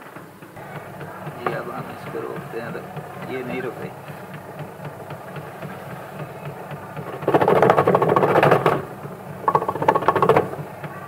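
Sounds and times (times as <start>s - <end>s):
loud rapid rattling: 0.0s - 11.0s
washing machine motor humming: 0.0s - 11.0s.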